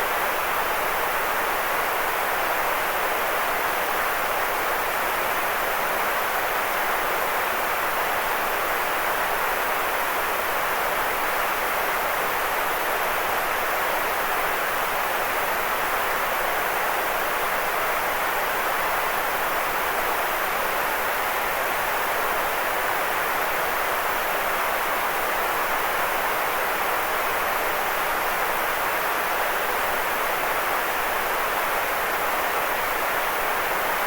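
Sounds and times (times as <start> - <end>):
white noise hiss: 0.0 - 34.0.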